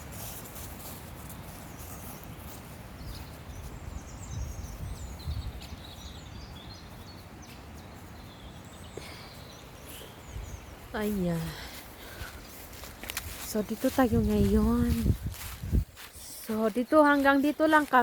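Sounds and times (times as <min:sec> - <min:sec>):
birds chirping: 0:01.0 - 0:18.0.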